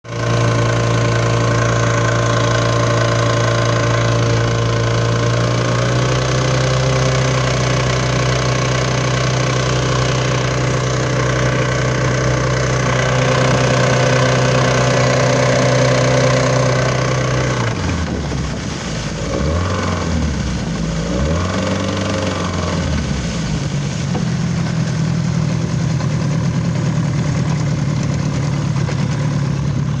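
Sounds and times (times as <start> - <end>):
outboard motor running with knock: 0.0 - 30.0.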